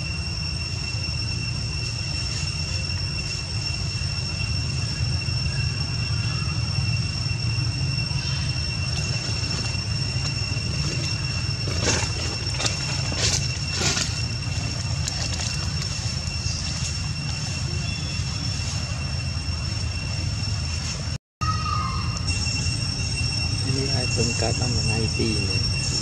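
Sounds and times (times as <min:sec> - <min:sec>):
high whine: 0:00.0 - 0:26.0.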